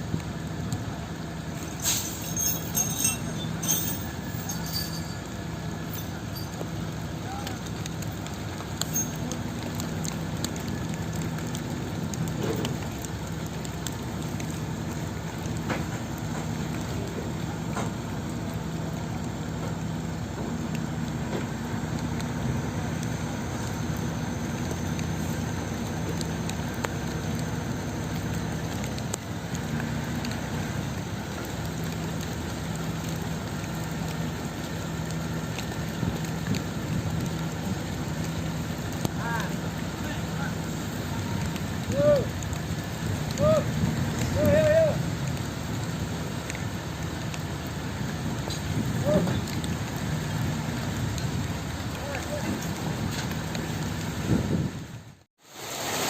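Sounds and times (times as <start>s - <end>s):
truck engine running: 0.0s - 55.3s
constant hiss: 0.0s - 56.0s.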